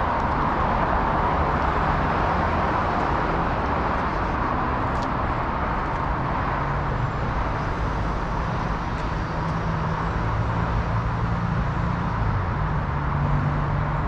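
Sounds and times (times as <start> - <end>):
tyre and road noise: 0.0 - 14.0.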